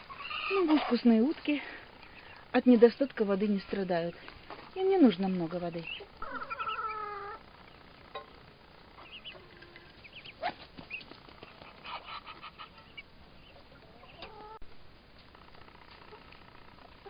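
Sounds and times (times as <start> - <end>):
chickens clucking: 0.0 - 14.6, 15.2 - 17.0.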